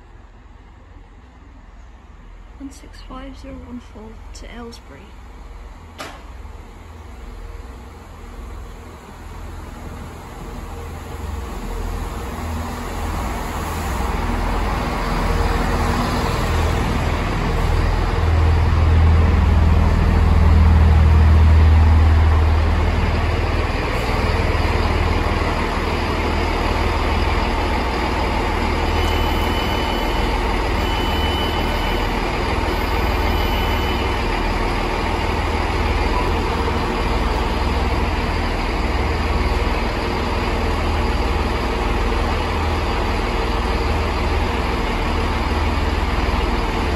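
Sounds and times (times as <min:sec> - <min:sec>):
train diesel engines rumbling: 0:00.0 - 0:46.9.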